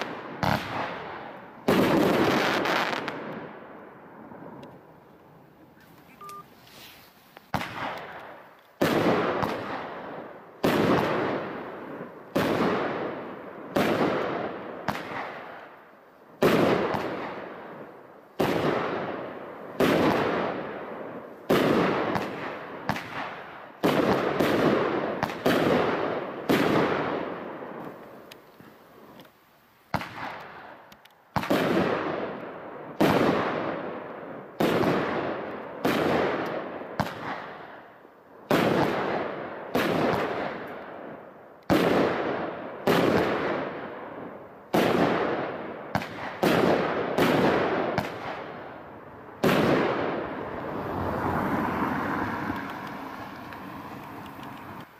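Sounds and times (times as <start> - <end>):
fireworks bangs echoing: 0.0 - 4.6, 7.5 - 15.8, 16.4 - 29.2, 29.9 - 54.9.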